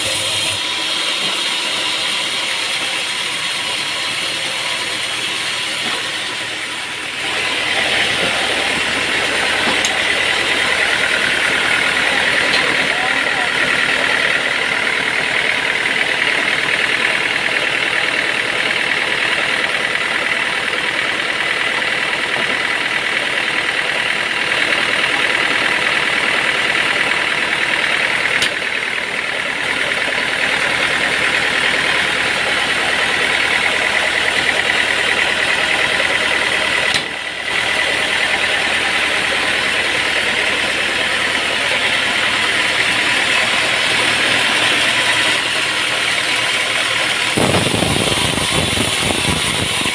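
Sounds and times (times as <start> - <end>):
sawmill machinery whining: 0.0 - 49.9.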